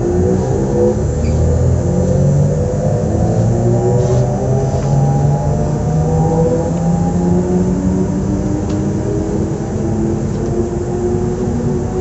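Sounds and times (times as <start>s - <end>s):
electric train motors whining: 0.0s - 12.0s
train running rumble: 0.0s - 12.0s.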